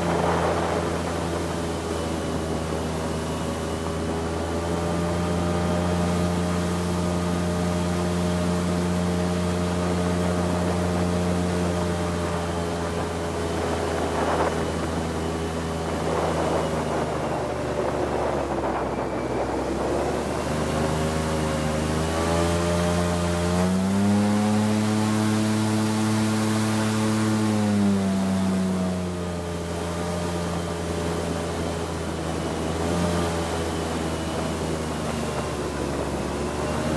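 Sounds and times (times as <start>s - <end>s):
airboat engine and propeller running: 0.0s - 36.9s.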